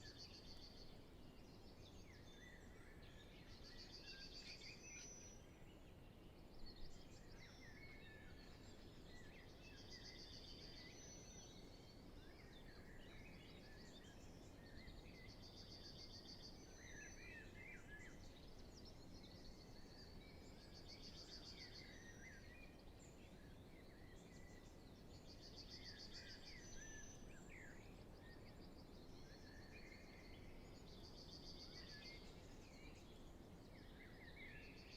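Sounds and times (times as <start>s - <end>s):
background hiss: 0.0s - 34.9s
birds singing: 0.0s - 34.9s.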